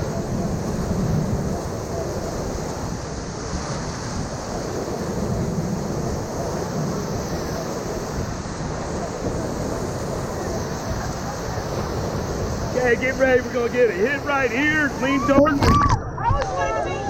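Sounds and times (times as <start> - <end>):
whitewater rushing: 0.0 - 16.0
wind buffeting microphone: 0.0 - 17.0.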